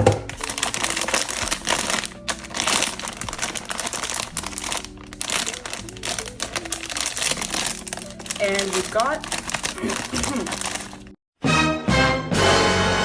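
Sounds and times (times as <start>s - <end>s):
soft background music: 0.0s - 13.0s
plastic bag crinkling: 0.3s - 11.2s.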